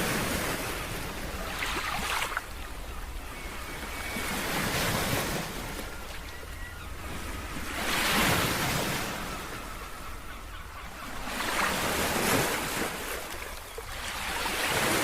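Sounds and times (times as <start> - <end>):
sea waves breaking on shore: 0.0 - 15.0
wind: 0.0 - 15.0.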